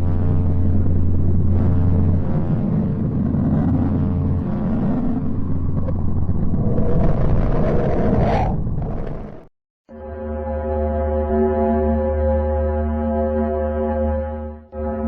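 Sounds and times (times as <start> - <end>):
deep rumbling drone: 0.0 - 15.0.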